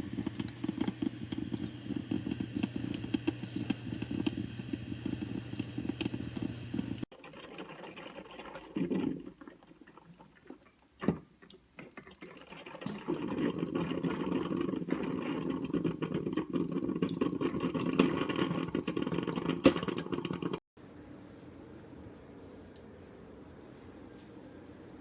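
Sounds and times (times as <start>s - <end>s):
drip coffee maker gurgling: 0.0s - 20.6s.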